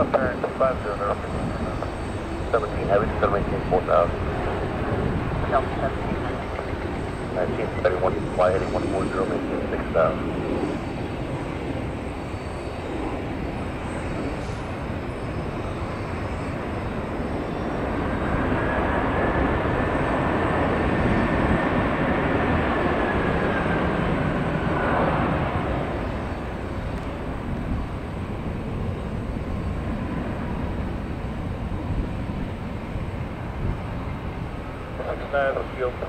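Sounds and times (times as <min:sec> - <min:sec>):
high jet engine whine: 0:00.0 - 0:36.0
jet plane passing: 0:00.0 - 0:36.0.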